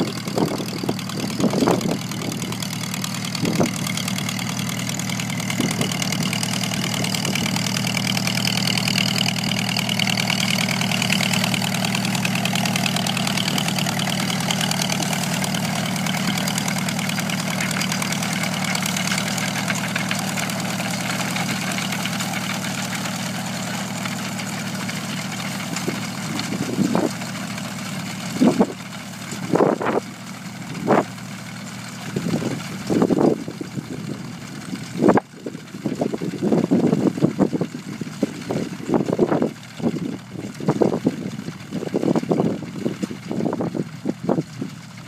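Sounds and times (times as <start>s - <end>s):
old tractor engine running: 0.0s - 45.0s.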